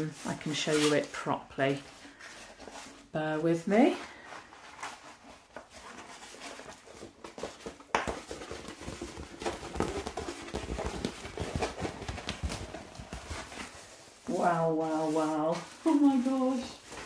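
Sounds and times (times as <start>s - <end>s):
plastic sheet crinkling and rustling: 0.0s - 17.0s.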